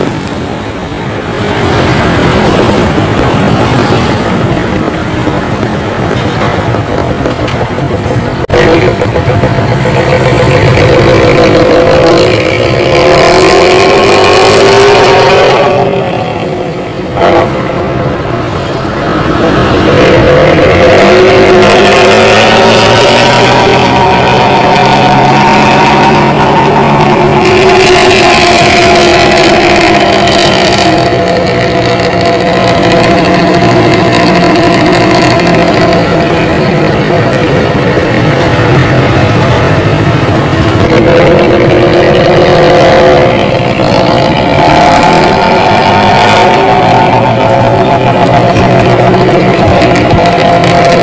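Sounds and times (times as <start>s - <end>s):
loud exhaust engine accelerating: 0.0s - 51.0s.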